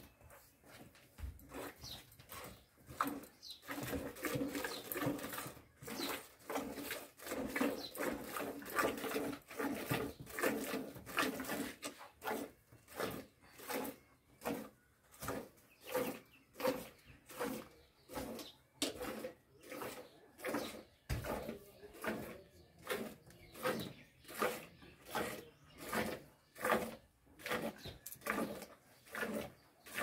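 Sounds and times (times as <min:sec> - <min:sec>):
milk squirting into pail: 0:02.3 - 0:30.0.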